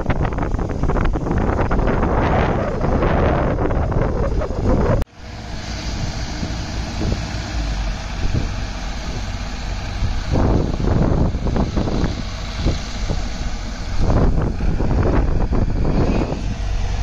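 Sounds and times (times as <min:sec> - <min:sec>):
distant engines: 0:00.0 - 0:17.0
excavator diesel engine running: 0:00.0 - 0:17.0
wind buffeting microphone: 0:00.0 - 0:17.0
excavator digging soil: 0:01.3 - 0:17.0.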